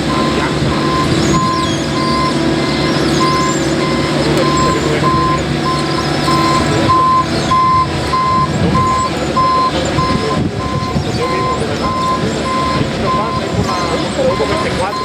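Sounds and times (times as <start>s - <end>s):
backup alarm beeping: 0.0s - 15.0s
diesel engine running: 0.0s - 15.0s.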